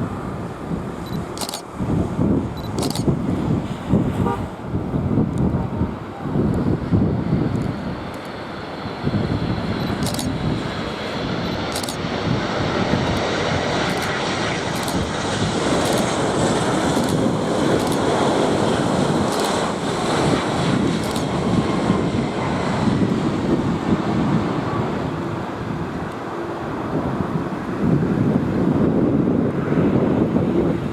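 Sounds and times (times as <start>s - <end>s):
jet engines roaring overhead: 0.0s - 30.9s.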